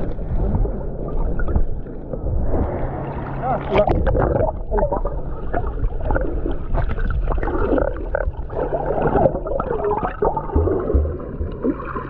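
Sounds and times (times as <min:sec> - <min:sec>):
underwater bubbling and gurgling: 0:00.0 - 0:12.0.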